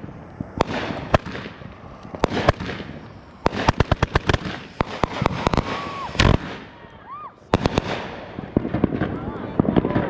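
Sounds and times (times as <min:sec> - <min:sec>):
aerial fireworks bursting: 0:00.0 - 0:10.0.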